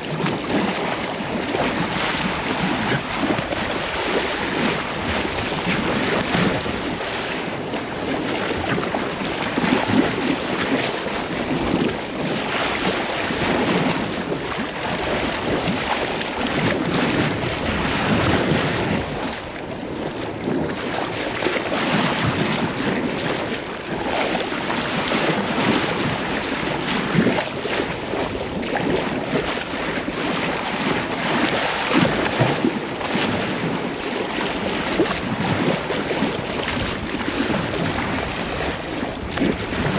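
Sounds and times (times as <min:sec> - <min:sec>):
water rushing past hull: 0:00.0 - 0:39.9
wind buffeting microphone: 0:00.0 - 0:39.9.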